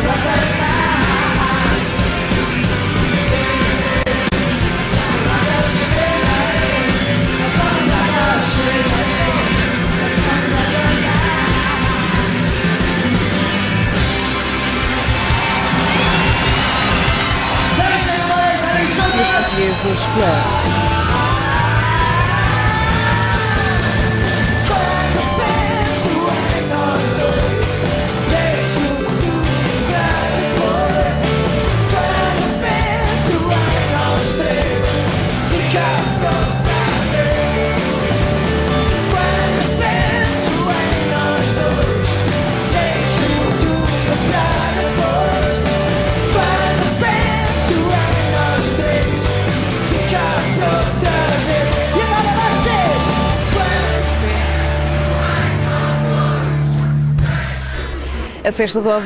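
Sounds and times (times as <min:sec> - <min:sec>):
live rock band playing: 0:00.0 - 0:57.6.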